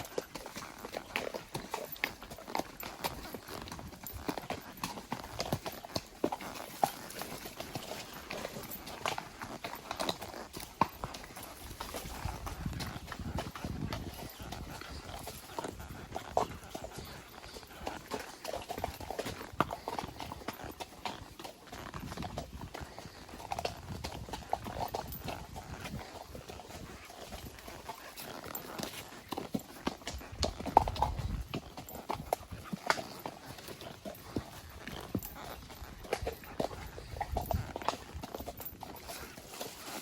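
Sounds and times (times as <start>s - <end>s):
horse hoofbeats clip-clop: 0.0s - 40.0s.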